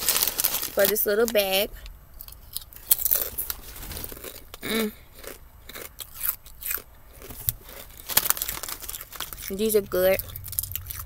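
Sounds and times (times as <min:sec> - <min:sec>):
person chewing crunchy chips: 0:00.0 - 0:11.0.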